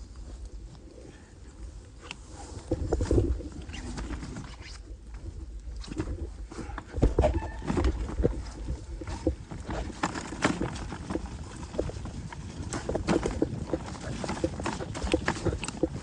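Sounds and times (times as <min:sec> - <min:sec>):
mountain bike rattling over rocks: 0:02.7 - 0:16.0.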